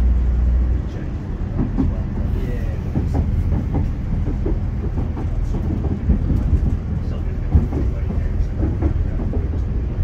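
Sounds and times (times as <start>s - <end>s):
train rumbling from inside carriage: 0.0s - 10.0s
wheels clacking over rails: 1.4s - 10.0s.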